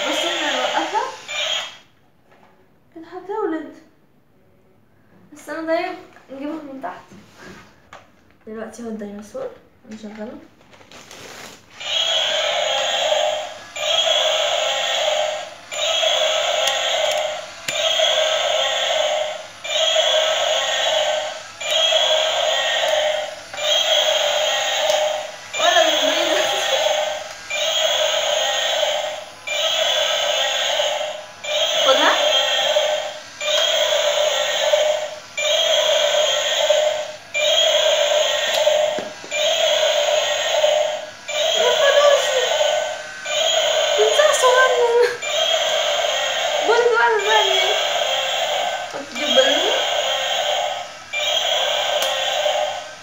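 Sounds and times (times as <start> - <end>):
toy electronic sound: 0.0 - 1.8, 11.8 - 53.0.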